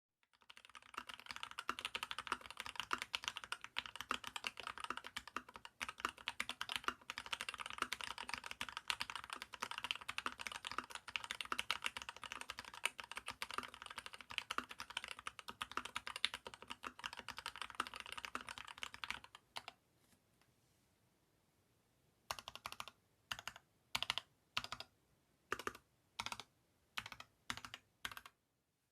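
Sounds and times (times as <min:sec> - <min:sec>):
fast mechanical keyboard typing: 0:00.3 - 0:19.7, 0:22.3 - 0:24.9, 0:25.5 - 0:28.4.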